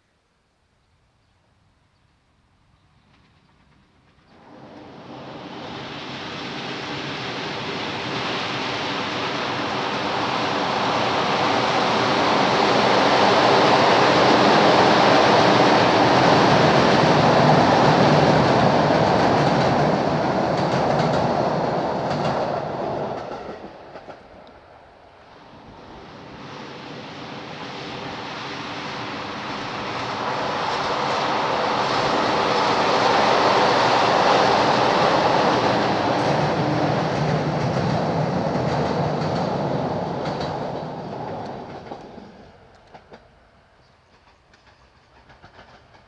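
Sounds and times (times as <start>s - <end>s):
train crossing steel bridge: 2.5s - 46.0s.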